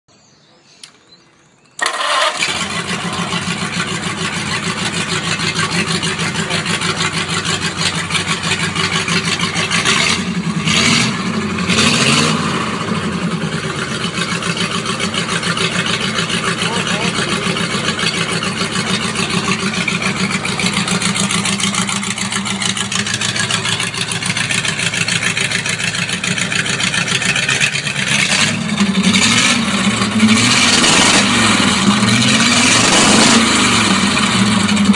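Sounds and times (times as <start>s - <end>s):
engine revving: 1.8s - 34.9s
engine starting and idling: 1.8s - 34.9s.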